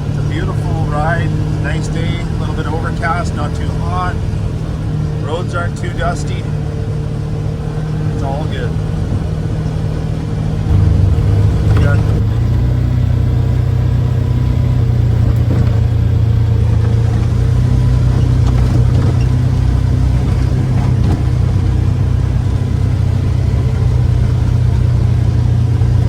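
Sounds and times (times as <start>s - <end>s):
vehicle engine and road rumble: 0.0s - 26.0s.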